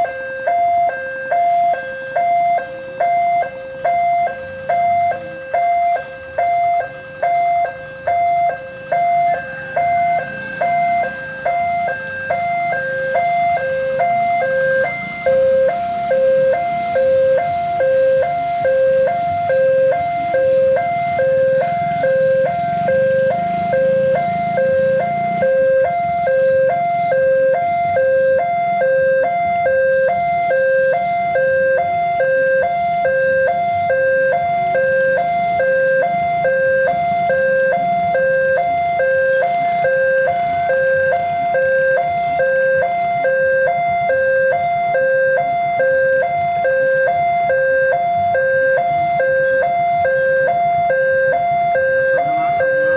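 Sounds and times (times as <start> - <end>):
level crossing two-note alarm: 0.0 - 52.9.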